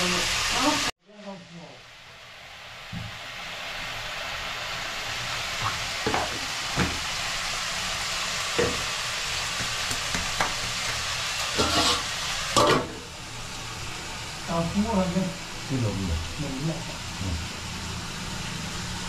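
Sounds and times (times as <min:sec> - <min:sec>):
meat sizzling in a wok: 0:00.0 - 0:19.0.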